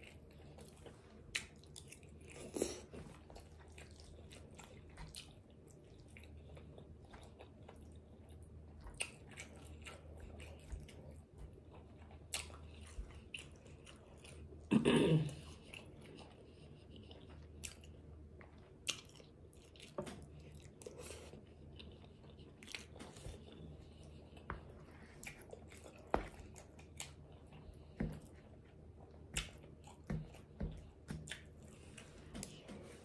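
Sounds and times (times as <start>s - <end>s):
person chewing: 0.0s - 33.0s.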